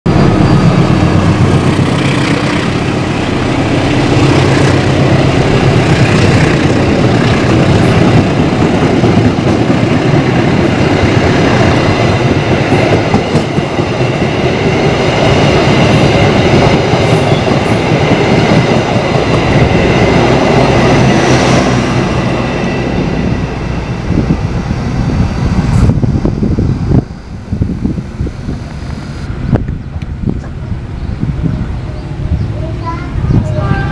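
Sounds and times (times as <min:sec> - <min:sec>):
train rumbling past: 0:00.1 - 0:33.9.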